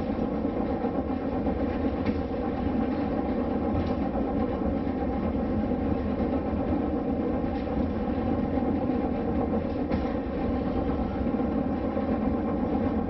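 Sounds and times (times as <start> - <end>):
cable car rolling rumble: 0.0 - 13.0.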